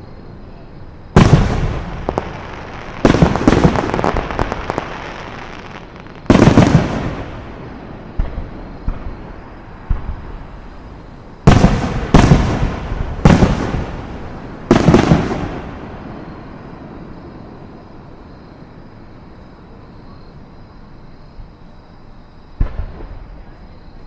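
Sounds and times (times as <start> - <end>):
fireworks booming: 1.0 - 19.8, 22.6 - 24.0.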